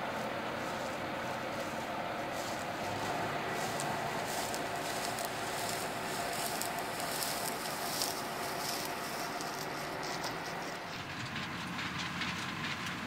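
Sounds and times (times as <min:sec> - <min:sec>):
combine harvester engine running: 0:00.0 - 0:13.0.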